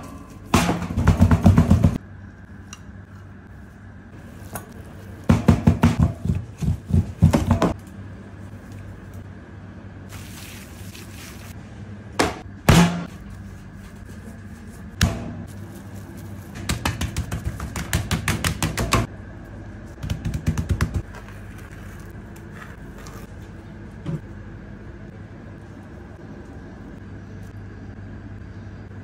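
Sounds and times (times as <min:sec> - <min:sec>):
low kitchen hum: 0:00.0 - 0:29.0.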